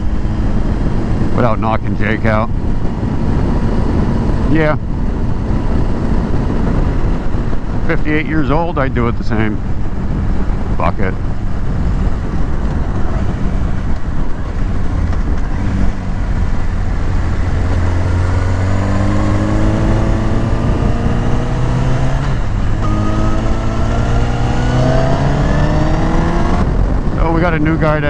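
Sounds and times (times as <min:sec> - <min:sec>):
motorcycle engine accelerating: 0:00.0 - 0:28.0
wind on microphone: 0:00.0 - 0:28.0.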